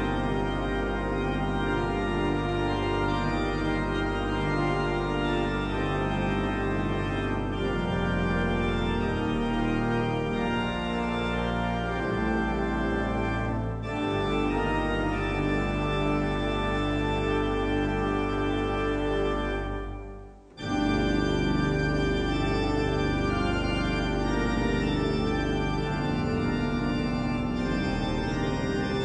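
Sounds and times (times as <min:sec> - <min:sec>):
pipe organ chords: 0:00.0 - 0:29.0.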